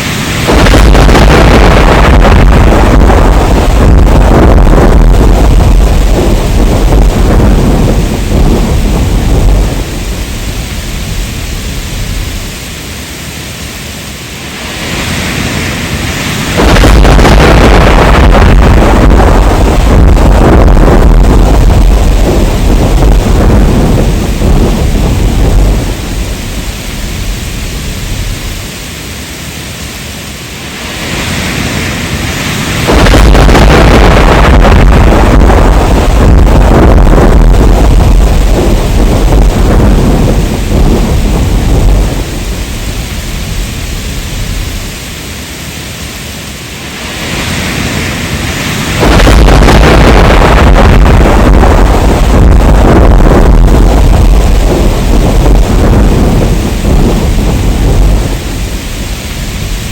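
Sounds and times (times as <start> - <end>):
deep rumbling thunder: 0.0 - 12.9, 14.6 - 28.9, 31.0 - 45.2, 47.0 - 59.9
heavy rain: 0.0 - 59.9.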